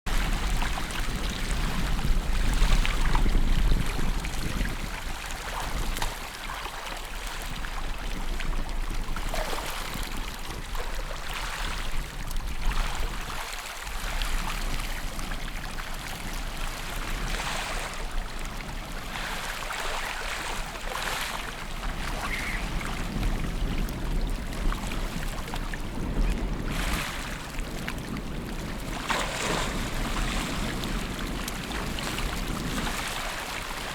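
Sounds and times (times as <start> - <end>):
wind on microphone: 0.1 - 33.9.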